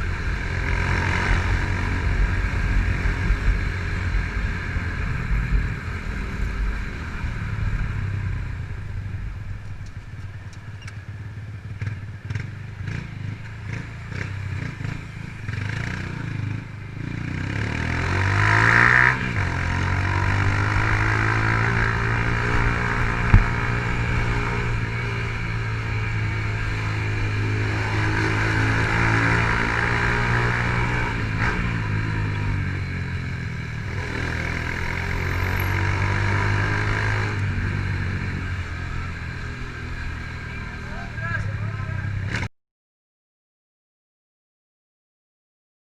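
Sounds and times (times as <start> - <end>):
motorcycle engine revving: 0.0 - 42.5
road and wind noise: 0.0 - 42.5.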